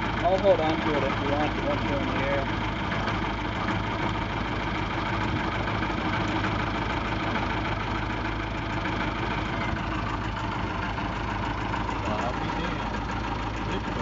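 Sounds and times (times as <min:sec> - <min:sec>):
propeller plane engine running: 0:00.0 - 0:14.0.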